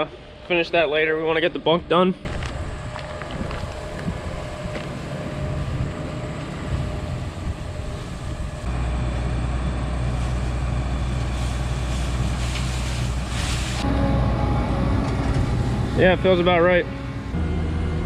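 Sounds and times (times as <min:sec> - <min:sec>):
diesel farm machinery engine running: 0:02.3 - 0:18.0.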